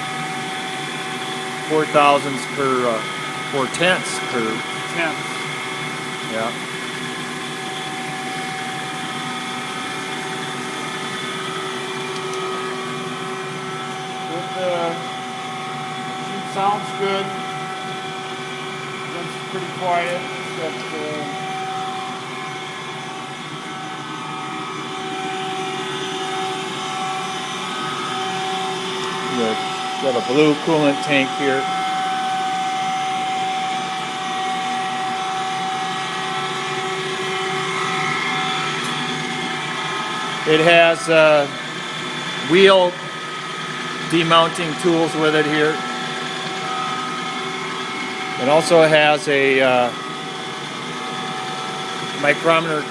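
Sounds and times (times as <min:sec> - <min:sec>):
grinding machine whine and hiss: 0:00.0 - 0:52.9.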